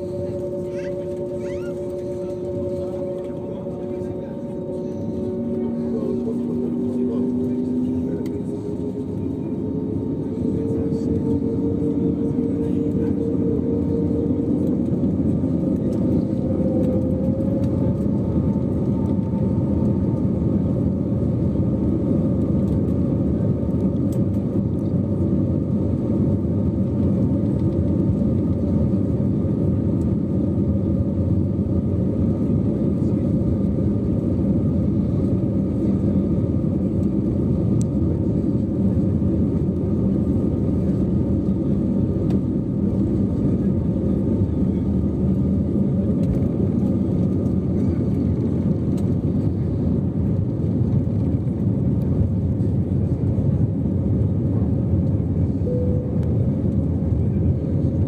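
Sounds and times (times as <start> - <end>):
airplane cabin rumble: 0.0 - 58.0
jet engine whine rising: 0.0 - 58.0.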